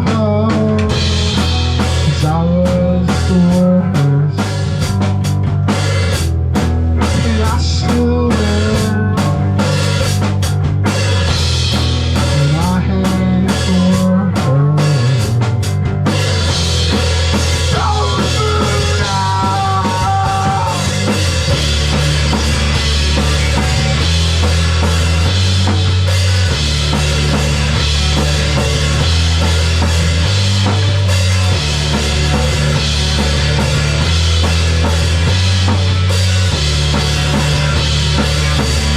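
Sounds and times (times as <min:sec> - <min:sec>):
heavy bass line: 0:00.0 - 0:38.9
live rock band: 0:00.0 - 0:38.9.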